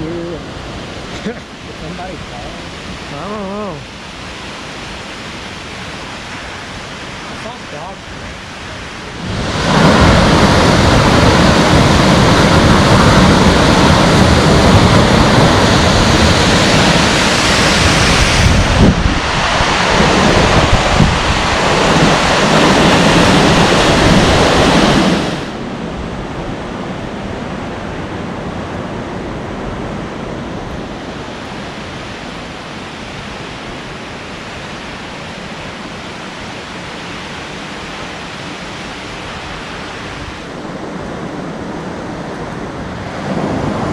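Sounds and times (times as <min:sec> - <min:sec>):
waterfall rushing: 0:00.0 - 0:25.9, 0:26.5 - 0:43.9.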